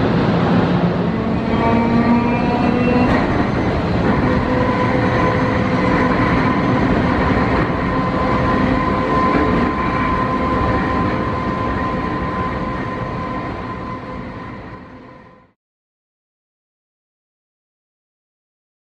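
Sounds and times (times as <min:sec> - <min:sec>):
train wheels rumbling on rails: 0:00.0 - 0:15.5
steady train whine: 0:00.0 - 0:15.6.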